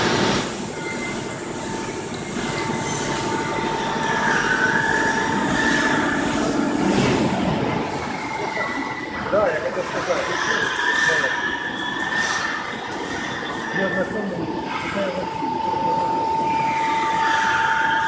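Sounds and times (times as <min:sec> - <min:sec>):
thin whining tones: 0:00.7 - 0:18.0.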